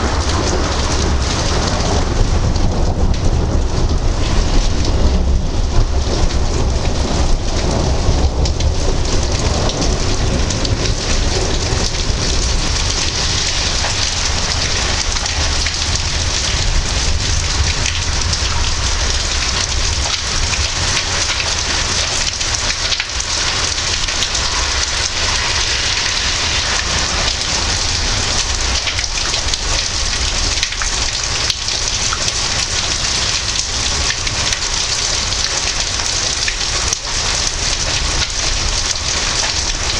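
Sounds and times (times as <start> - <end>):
heavy rain falling: 0.0 - 39.9
low rolling thunder: 0.0 - 39.9.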